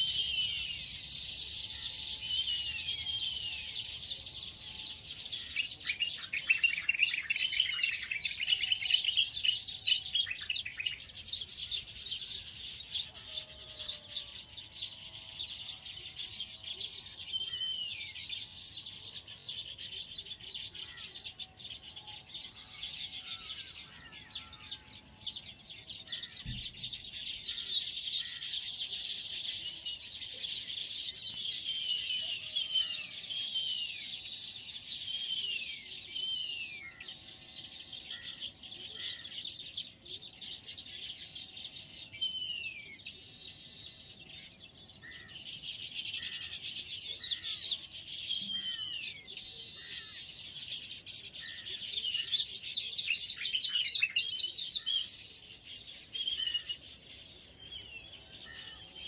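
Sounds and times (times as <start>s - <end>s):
weaver birds chattering and chirping: 0.0s - 59.0s.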